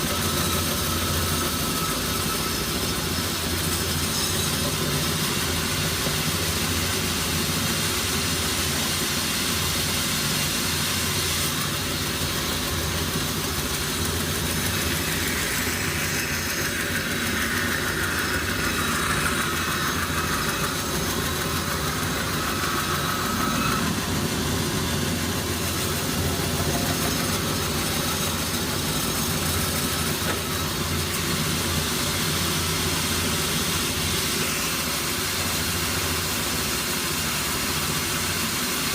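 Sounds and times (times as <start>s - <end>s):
faint high whine: 0.0s - 38.2s
engine humming steadily: 0.0s - 38.9s.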